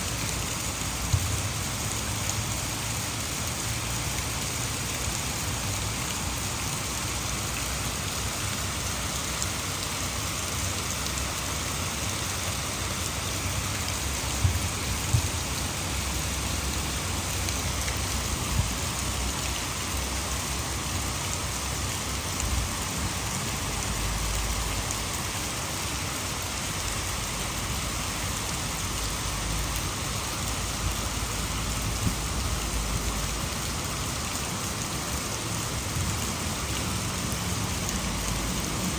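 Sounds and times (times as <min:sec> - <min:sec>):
heavy rain falling: 0:00.0 - 0:38.9
raindrops ticking: 0:00.3 - 0:25.8, 0:26.8 - 0:38.9.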